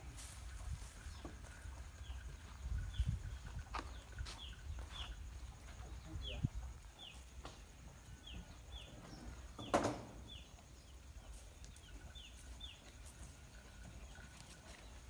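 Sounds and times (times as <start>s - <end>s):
small bird chirping: 1.0s - 15.0s.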